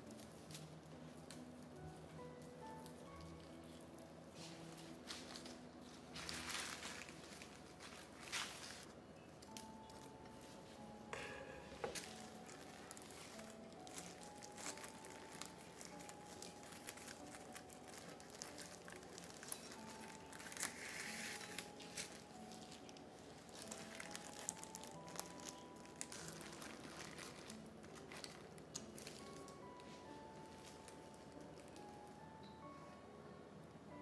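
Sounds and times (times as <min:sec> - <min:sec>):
crinkling and crackling: 0:00.0 - 0:32.3
soft background music: 0:00.0 - 0:34.0.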